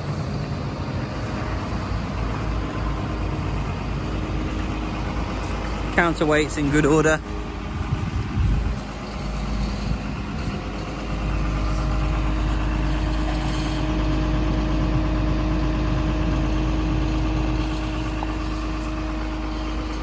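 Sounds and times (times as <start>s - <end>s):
excavator diesel engine idling: 0.0s - 20.0s.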